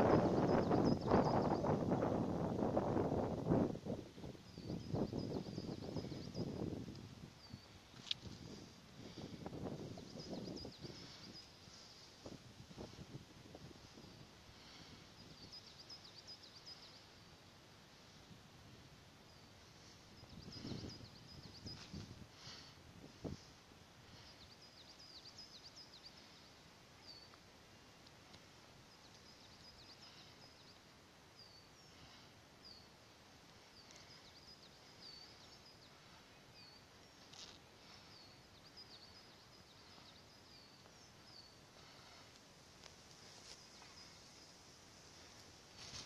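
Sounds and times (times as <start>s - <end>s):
faint birds chirping: 0.0s - 46.0s
low background noise: 0.0s - 46.0s.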